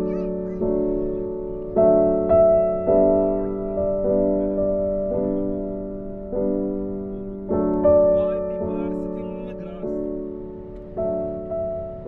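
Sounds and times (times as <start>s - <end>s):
slow gentle piano chords: 0.0s - 12.0s.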